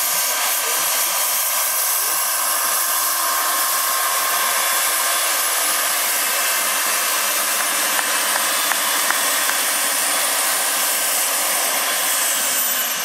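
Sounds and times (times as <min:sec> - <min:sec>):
model helicopter turbine whine: 0:00.0 - 0:13.0.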